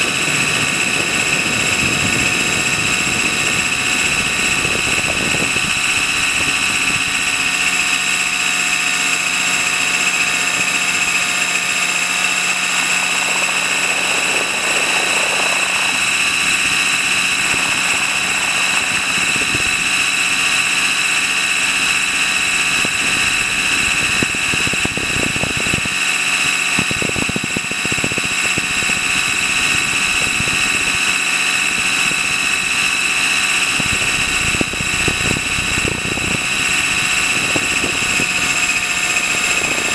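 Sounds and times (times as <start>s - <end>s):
helicopter motor and rotor whine: 0.0s - 39.9s.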